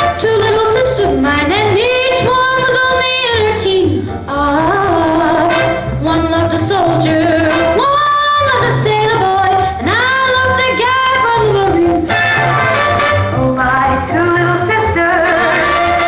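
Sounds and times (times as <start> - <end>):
instrumental accompaniment with bass: 0.0 - 16.0.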